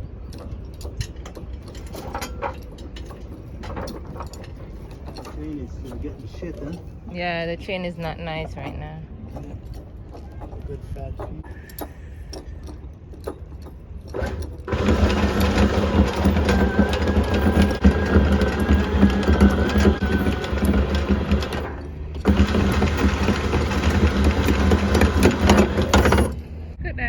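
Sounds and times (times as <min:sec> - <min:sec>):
anchor chain clattering: 0:00.0 - 0:26.7
windlass motor hum: 0:00.0 - 0:27.0.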